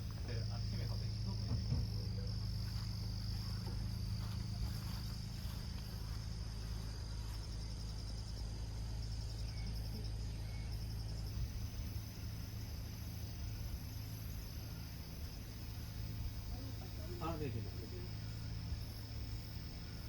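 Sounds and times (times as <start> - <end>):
insects chirring: 0.0 - 20.0
low hum: 0.0 - 20.0.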